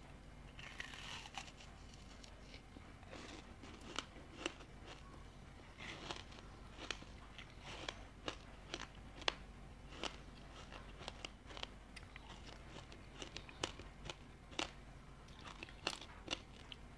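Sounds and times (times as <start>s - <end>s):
ice crunching while chewed: 0.6s - 2.1s, 3.0s - 16.8s.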